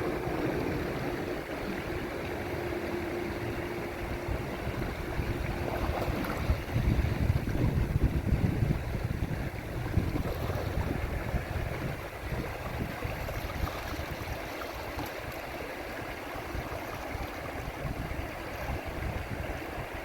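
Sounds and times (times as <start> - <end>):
flowing river water: 0.0 - 20.0
wind buffeting microphone: 0.0 - 20.0.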